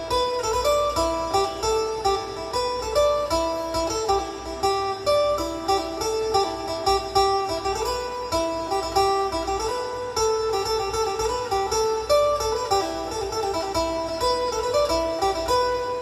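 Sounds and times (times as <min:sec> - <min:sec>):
plucked lute melody: 0:00.0 - 0:16.0.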